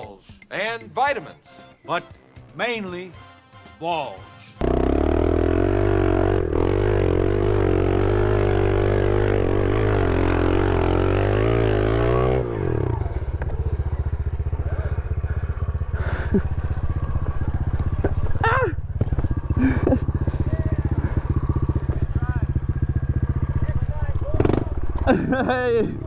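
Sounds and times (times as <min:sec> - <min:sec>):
small motorbike engine revving: 0:04.6 - 0:26.0.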